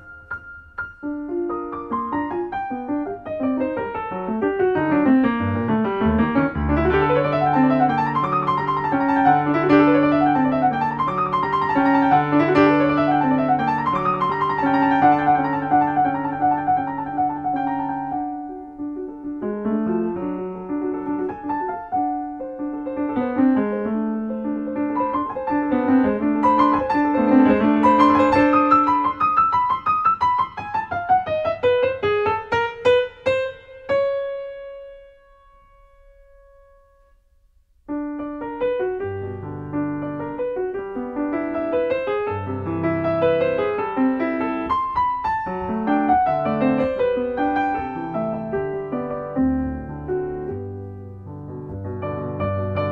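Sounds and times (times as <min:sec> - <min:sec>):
gentle piano music: 0:00.0 - 0:52.9.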